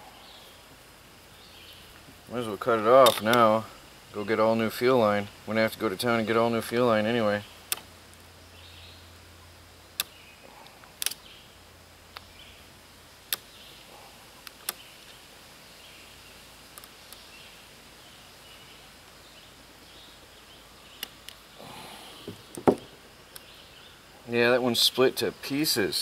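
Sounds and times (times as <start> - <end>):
faint outdoor background: 0.0 - 26.0.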